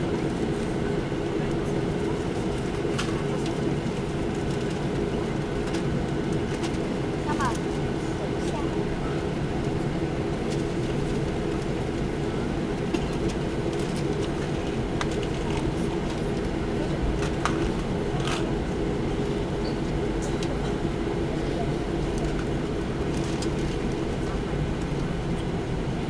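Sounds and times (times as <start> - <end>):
aircraft engines rumbling: 0.0 - 26.0.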